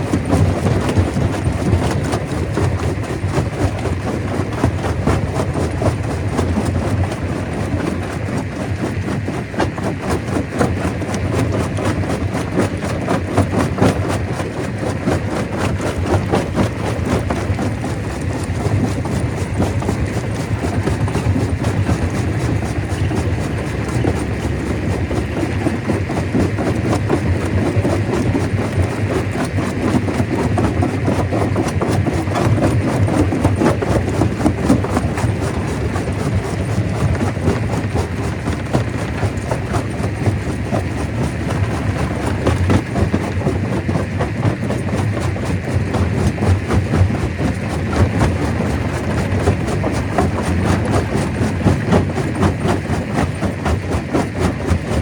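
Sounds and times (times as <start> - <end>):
stone crusher rumbling: 0.0 - 55.0.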